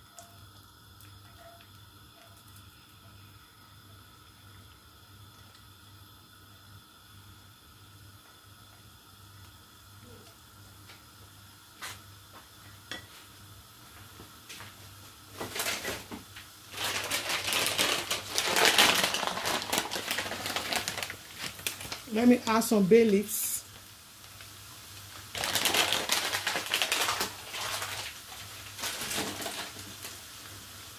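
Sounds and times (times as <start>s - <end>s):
garlic sizzling in frying pan: 0.0s - 30.9s.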